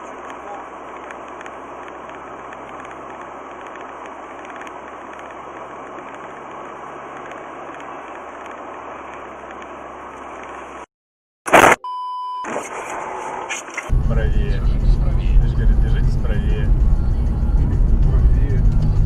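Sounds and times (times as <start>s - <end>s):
car driving road noise: 0.0s - 10.9s, 12.5s - 19.0s.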